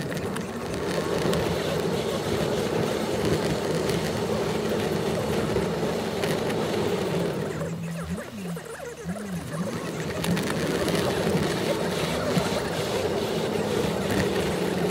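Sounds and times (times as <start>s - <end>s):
car engine rumble: 0.0s - 14.9s
road noise inside car: 0.0s - 14.9s.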